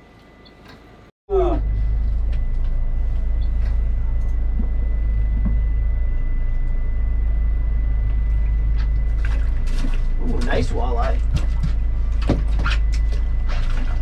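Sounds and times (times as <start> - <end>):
faint high whine: 1.3 - 14.0
vehicle engine rumble: 1.3 - 14.0.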